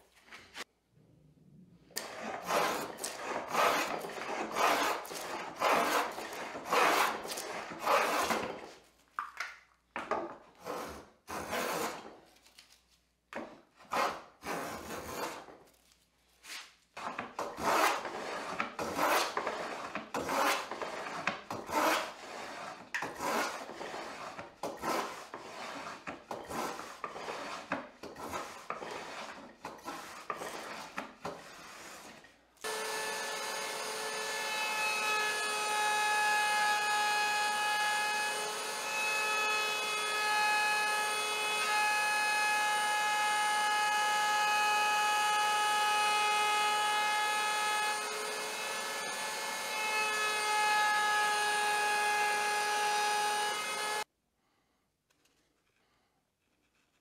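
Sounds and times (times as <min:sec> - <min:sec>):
plane shaving wood: 0:02.0 - 0:08.8, 0:10.0 - 0:12.2, 0:13.4 - 0:15.6, 0:17.0 - 0:54.1.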